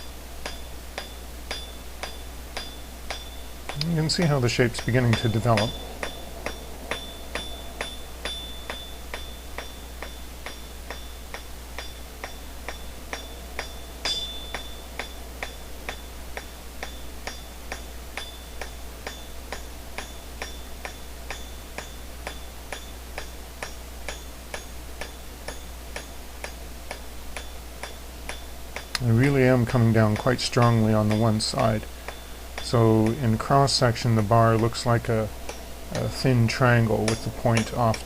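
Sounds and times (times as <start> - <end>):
hammer striking hot metal on anvil: 0.0 - 38.0
steady low hum: 0.0 - 38.0.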